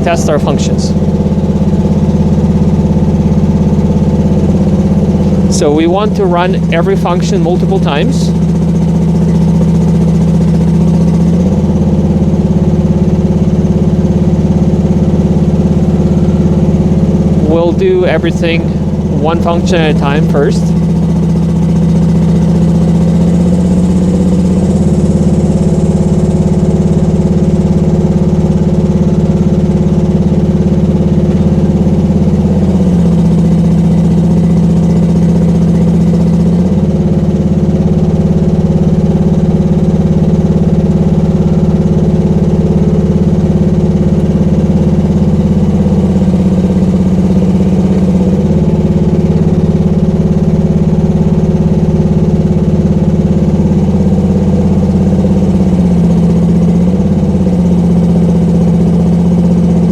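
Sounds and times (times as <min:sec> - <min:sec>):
mini excavator engine running: 0:00.0 - 0:59.9.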